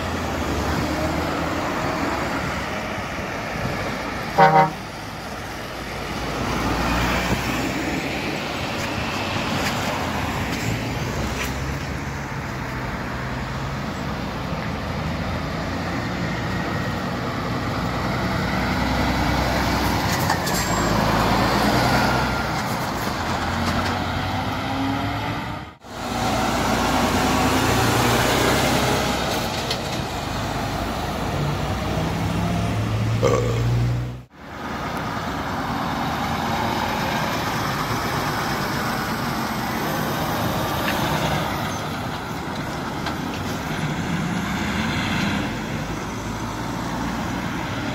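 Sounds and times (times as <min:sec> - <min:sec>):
heavy trucks driving past: 0:00.0 - 0:47.9
hum of traffic: 0:00.0 - 0:47.9
tyre and road noise: 0:00.0 - 0:47.9.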